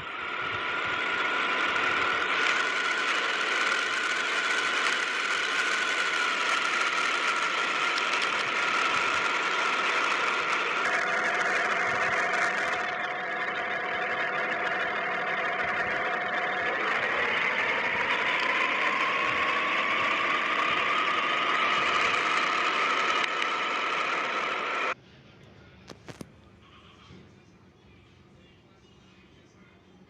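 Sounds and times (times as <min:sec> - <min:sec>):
engine running: 0:00.0 - 0:25.0
rising engine whine: 0:00.0 - 0:25.0.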